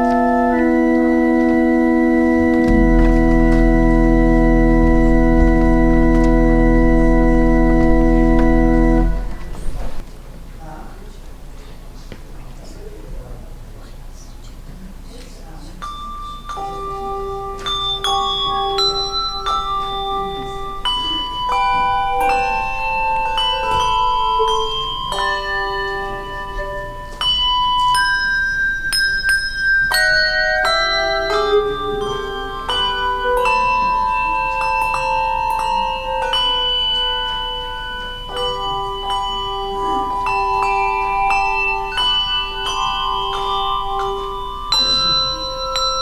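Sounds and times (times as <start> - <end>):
tuned bells playing melody: 0.0 - 10.0, 15.8 - 46.0.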